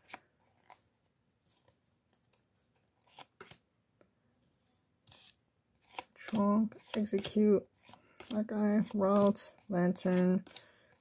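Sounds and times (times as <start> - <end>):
trading cards sliding and rustling: 0.0 - 3.6, 5.0 - 11.0.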